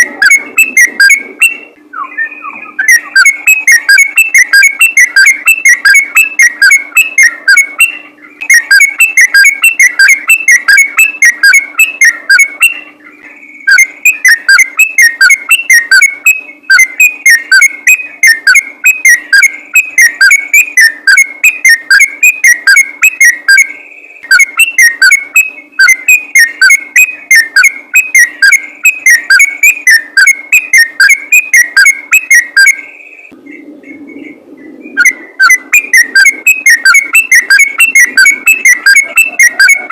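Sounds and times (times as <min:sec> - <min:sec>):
bulbul singing whistled notes: 0:00.0 - 0:39.9.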